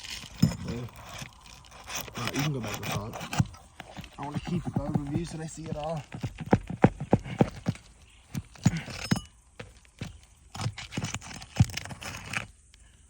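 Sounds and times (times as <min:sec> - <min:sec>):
footsteps on shingle roof: 0:00.0 - 0:12.5.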